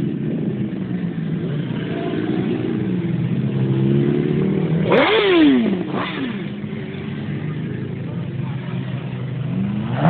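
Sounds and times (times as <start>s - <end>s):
motorcycle engine revving: 0.0s - 10.0s
motorcycle engines passing: 0.0s - 10.0s.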